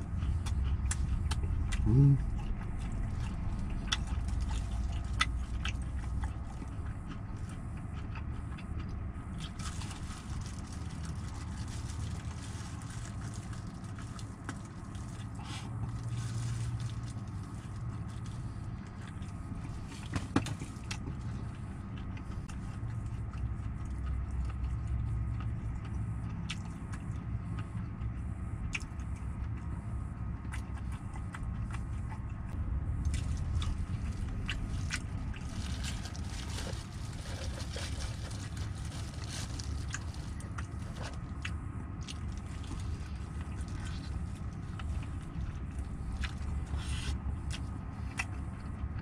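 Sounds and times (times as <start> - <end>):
low rumble in truck cab: 0.0 - 49.0
person chewing fried chicken: 0.0 - 49.0.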